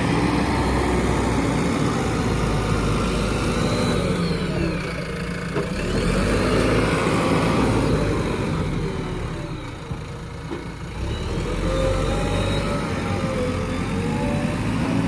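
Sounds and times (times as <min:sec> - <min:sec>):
diesel engine running under work: 0:00.0 - 0:15.0.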